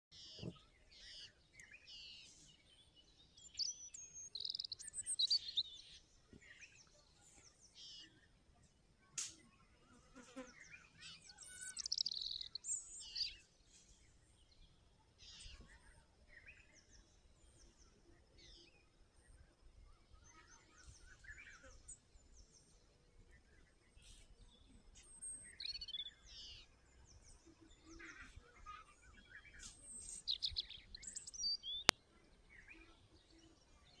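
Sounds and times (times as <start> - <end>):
small birds chirping: 0.1 - 34.0.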